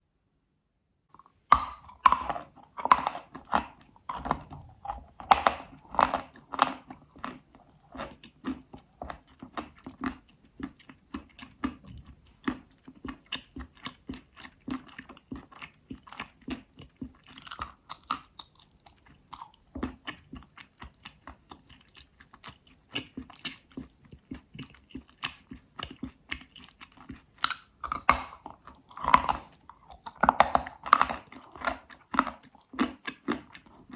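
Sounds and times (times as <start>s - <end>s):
chalk being bitten and chewed: 1.2s - 33.9s.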